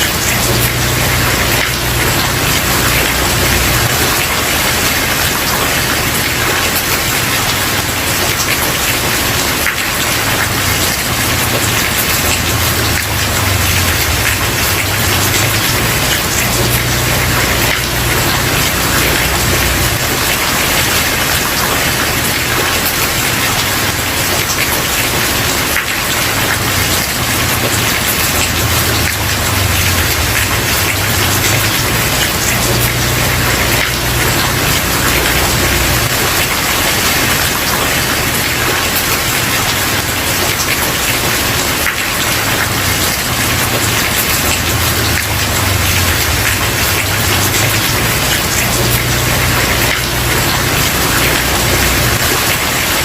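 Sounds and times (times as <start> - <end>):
heavy rain on wooden porch: 0.0 - 53.0.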